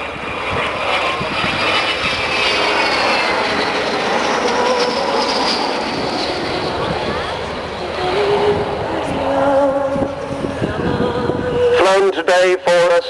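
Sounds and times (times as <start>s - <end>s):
high whining tones: 0.0s - 12.3s
jet aircraft flying by: 0.0s - 13.0s.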